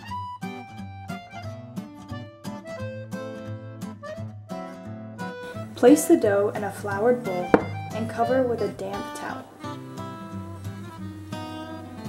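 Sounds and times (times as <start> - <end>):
acoustic guitar strumming chords: 1.6 - 12.0.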